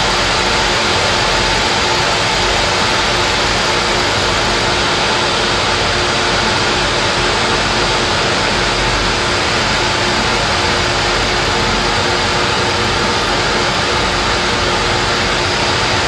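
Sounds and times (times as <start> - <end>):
small engine whirring: 0.0 - 5.1, 7.2 - 16.0.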